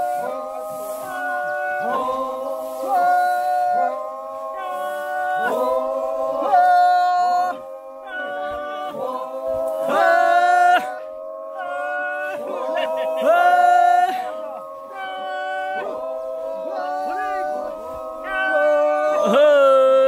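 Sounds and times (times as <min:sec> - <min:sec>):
men singing a work chant: 0:00.0 - 0:20.0.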